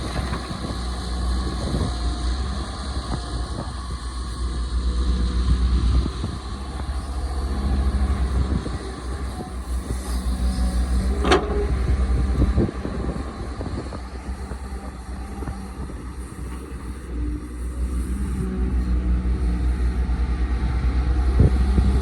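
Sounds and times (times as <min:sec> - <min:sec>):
excavator diesel engine rumbling: 0:00.0 - 0:22.0.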